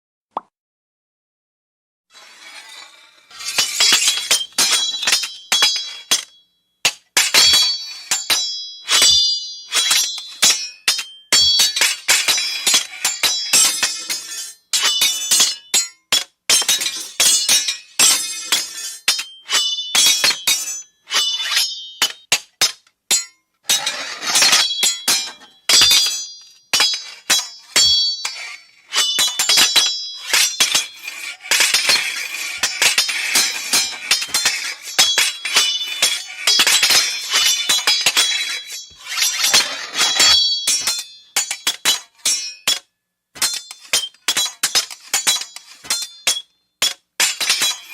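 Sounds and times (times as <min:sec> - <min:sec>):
swords clashing: 0:02.2 - 0:47.9.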